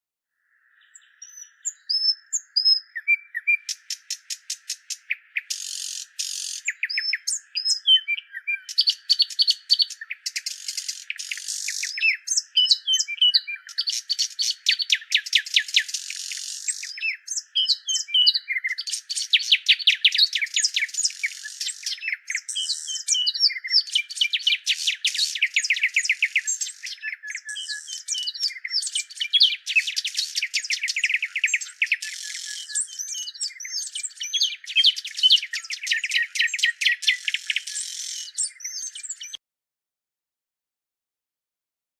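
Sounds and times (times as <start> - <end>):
small birds chirping: 0.4 - 39.4.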